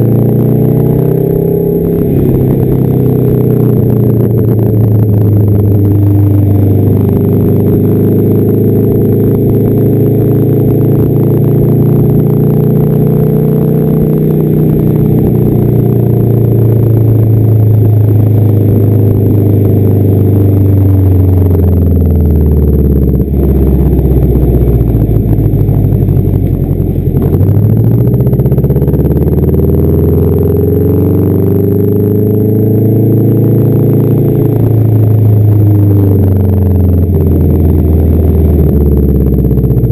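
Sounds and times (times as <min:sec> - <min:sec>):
loud car exhaust: 0:00.0 - 0:39.9.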